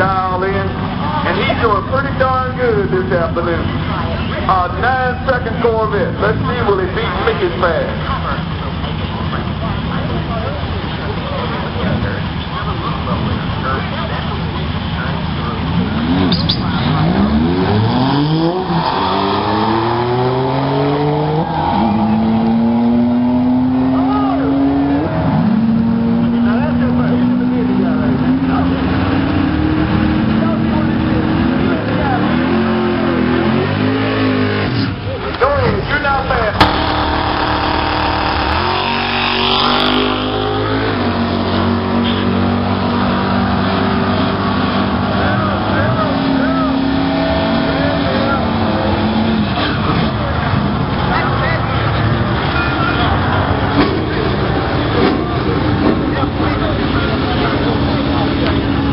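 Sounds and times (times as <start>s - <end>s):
car engine at full throttle: 0.0s - 58.9s.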